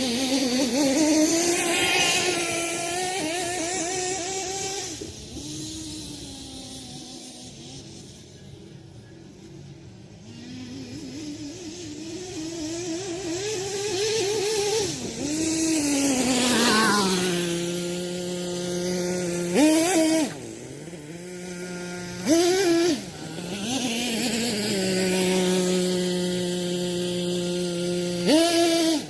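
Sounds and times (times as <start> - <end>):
small nitro engine revving: 0.0 - 29.0.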